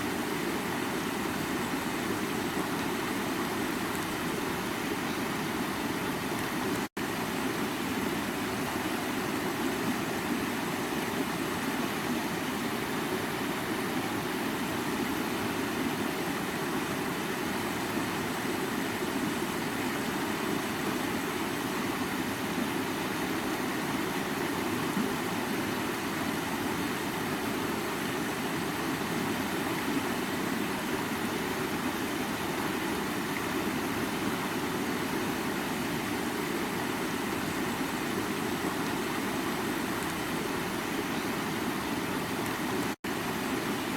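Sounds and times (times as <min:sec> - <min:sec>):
stream water running over rocks: 0:00.0 - 0:43.9.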